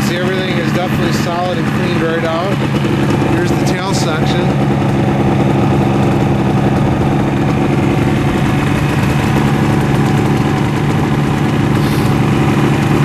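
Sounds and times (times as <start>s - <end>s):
two-stroke motorcycle engine idling: 0.0s - 13.0s.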